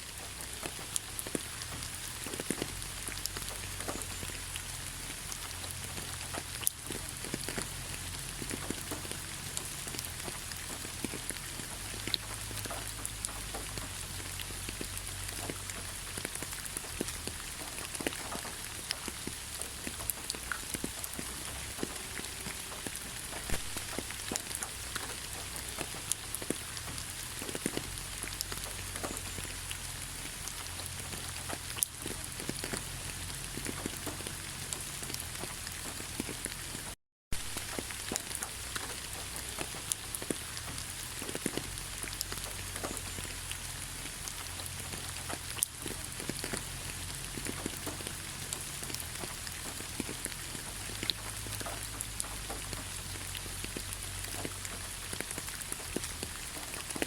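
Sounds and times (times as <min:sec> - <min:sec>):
rain falling in a forest: 0:00.0 - 0:57.0
raindrops striking close by: 0:00.0 - 0:57.0.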